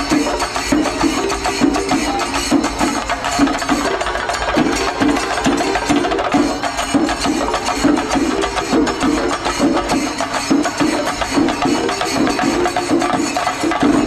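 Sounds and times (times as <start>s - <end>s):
cymbals: 0.0s - 14.0s
drums beaten fast with sticks: 0.0s - 14.0s.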